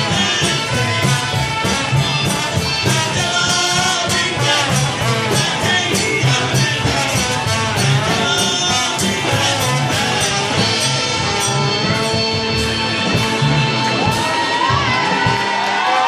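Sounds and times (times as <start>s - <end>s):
person singing: 0.0s - 1.3s, 2.8s - 16.0s
drum hits: 0.0s - 16.0s
live band playing: 0.0s - 16.0s.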